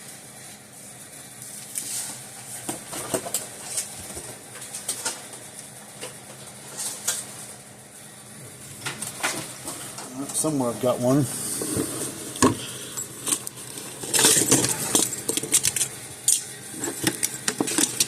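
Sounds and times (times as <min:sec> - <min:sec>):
faint steady hum: 0:00.0 - 0:18.0
rummaging through power cords: 0:01.7 - 0:07.6, 0:08.4 - 0:18.0.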